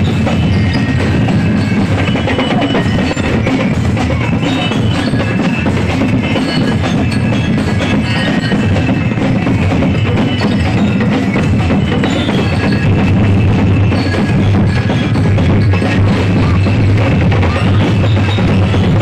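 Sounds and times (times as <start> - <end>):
bell-like mallet tones: 0.0 - 19.0
dense percussion music: 0.0 - 19.0.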